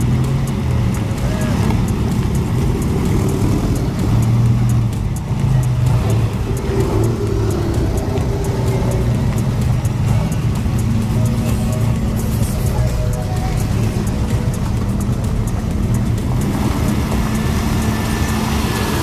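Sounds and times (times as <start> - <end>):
motor trikes passing slowly: 0.0 - 19.0.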